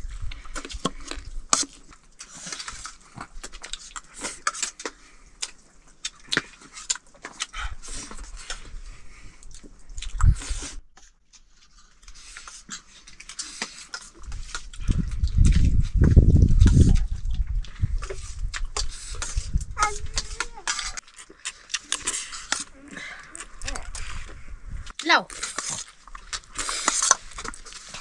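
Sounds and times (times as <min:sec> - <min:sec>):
wet chewing and lip smacks: 0:00.1 - 0:28.0.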